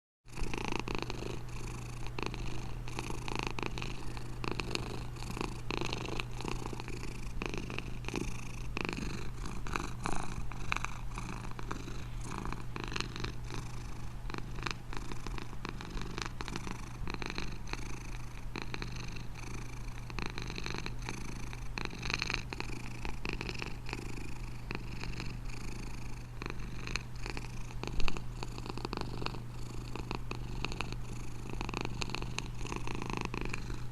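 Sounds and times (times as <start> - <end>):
cat purring: 0.3 - 33.9.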